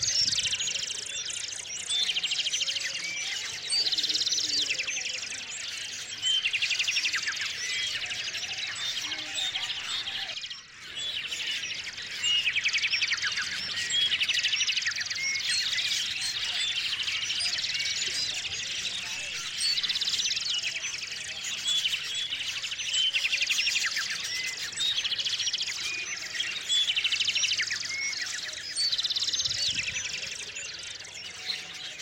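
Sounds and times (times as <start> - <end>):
songbirds chirping: 0.0 - 32.0.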